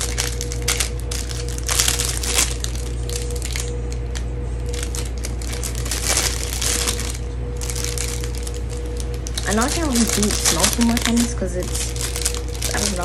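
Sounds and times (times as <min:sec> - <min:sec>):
packaging crinkling: 0:00.0 - 0:13.0
steady low hum: 0:00.0 - 0:13.0.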